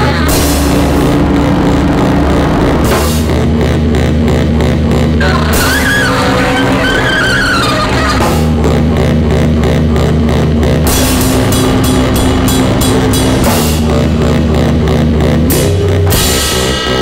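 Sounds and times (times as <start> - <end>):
drum kit pounding: 0.0 - 7.0, 8.1 - 17.0
low drone music: 0.0 - 17.0.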